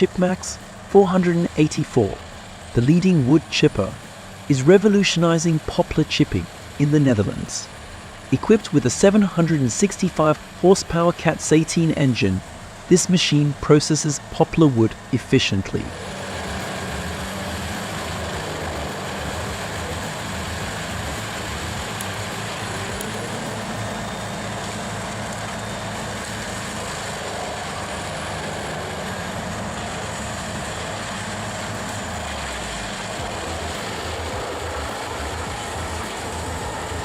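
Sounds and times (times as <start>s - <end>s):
wood chipper running: 0.0s - 37.0s.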